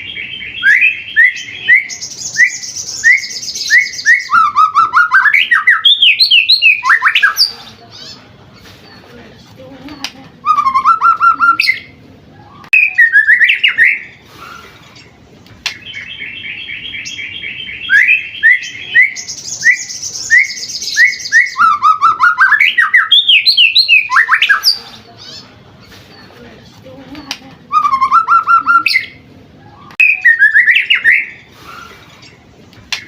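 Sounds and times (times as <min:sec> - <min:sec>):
songbird singing whistles and trills: 0:00.0 - 0:07.5, 0:10.0 - 0:14.7, 0:15.6 - 0:25.4, 0:27.7 - 0:32.3.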